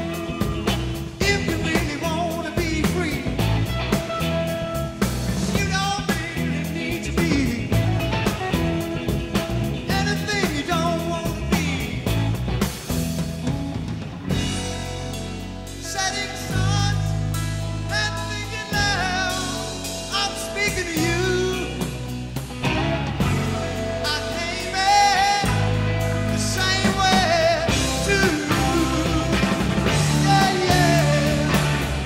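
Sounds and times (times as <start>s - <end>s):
rock song: 0.0s - 32.0s.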